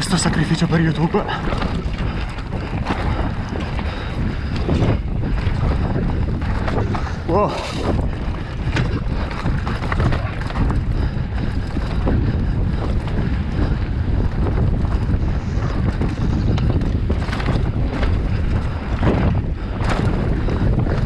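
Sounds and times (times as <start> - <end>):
bike knocks and rattles: 0.0 - 21.0
bike tyre noise: 0.0 - 21.0
wind rushing over microphone: 0.0 - 21.0.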